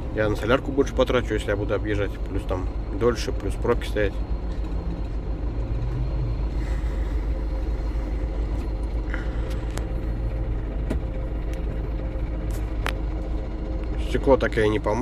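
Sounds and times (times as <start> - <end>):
road noise: 0.0 - 15.0
truck diesel engine rumble: 0.0 - 15.0.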